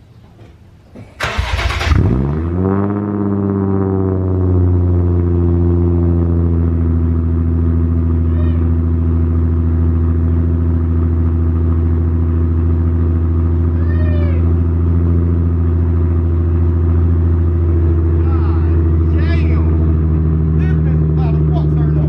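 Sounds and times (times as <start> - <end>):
car engine idling with low drone: 1.0 - 22.0.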